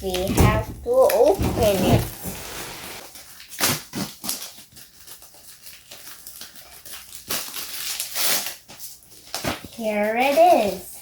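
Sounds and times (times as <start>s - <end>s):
packaging rustling: 0.0s - 10.8s
plastic and cardboard crackling: 0.0s - 11.0s.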